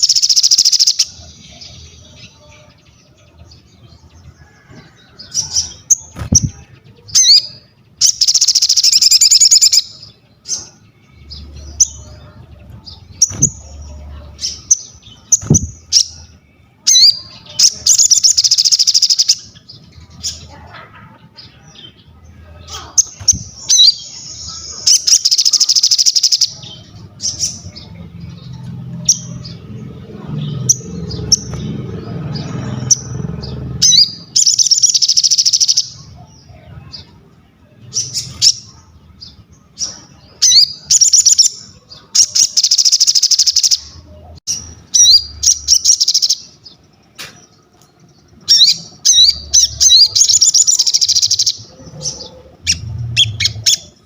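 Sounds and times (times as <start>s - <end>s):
bird chirps: 0.0s - 54.0s.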